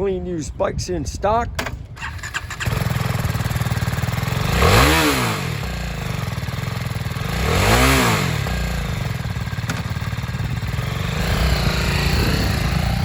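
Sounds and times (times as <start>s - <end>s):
motorcycle engine revving: 2.0s - 13.0s.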